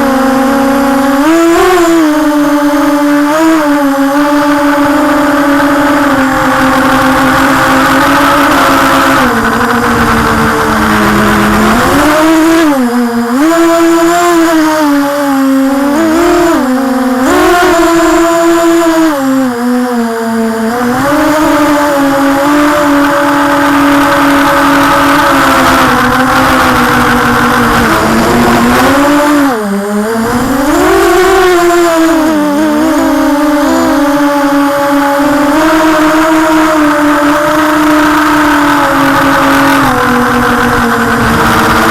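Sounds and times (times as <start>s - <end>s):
drone motors whining: 0.0s - 41.9s.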